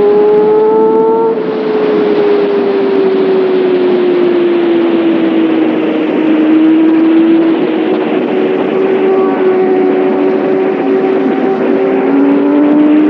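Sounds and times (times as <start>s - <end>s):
motorcycle engine and exhaust: 0.0s - 13.0s.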